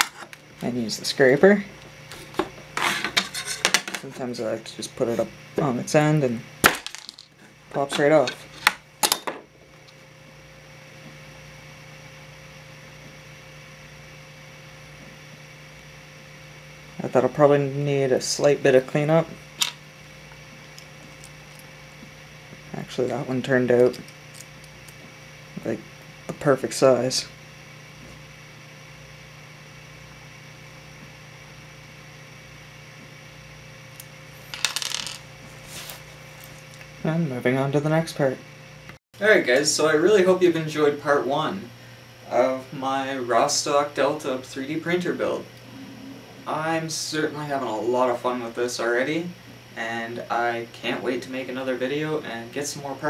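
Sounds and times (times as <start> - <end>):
electrical hum with fan hiss: 0.0 - 53.0.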